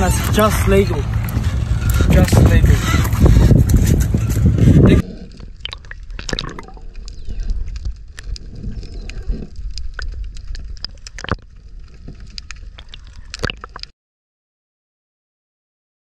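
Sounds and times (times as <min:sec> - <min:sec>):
low underwater noise: 0:00.2 - 0:13.9
underwater clicks and crackles: 0:00.2 - 0:13.9.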